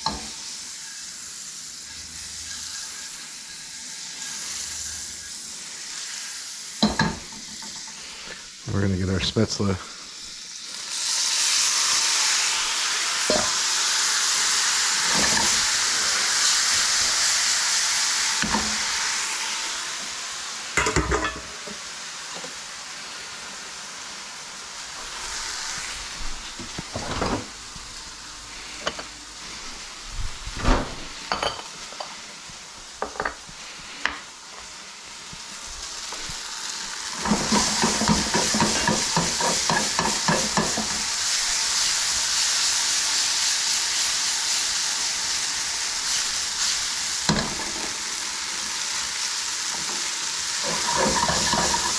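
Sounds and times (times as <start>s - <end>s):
dumplings sizzling in butter: 0.0s - 30.1s, 31.1s - 51.9s.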